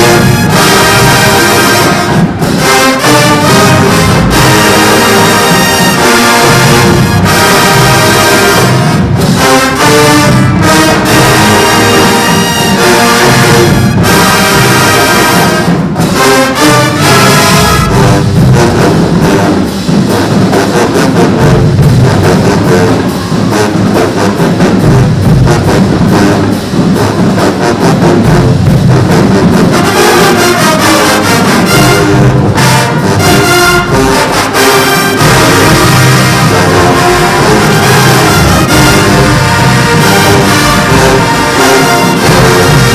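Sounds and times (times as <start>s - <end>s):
brass playing: 0.0s - 42.9s
steady drum beat: 0.0s - 42.9s.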